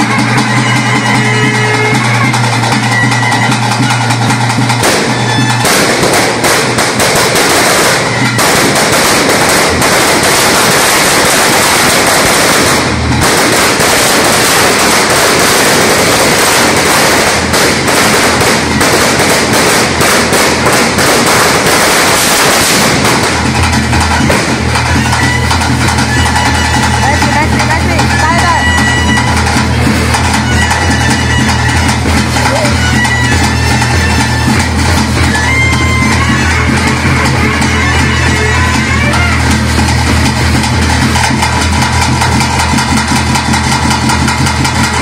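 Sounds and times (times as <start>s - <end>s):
firecrackers going off: 0.0s - 45.0s
ritual music: 0.0s - 45.0s.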